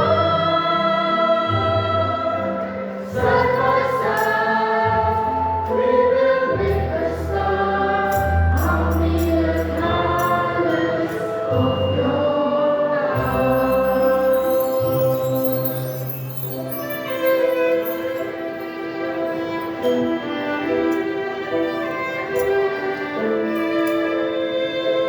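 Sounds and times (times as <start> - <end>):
choir singing held chords: 0.0 - 20.8
instrumental accompaniment: 0.0 - 25.0.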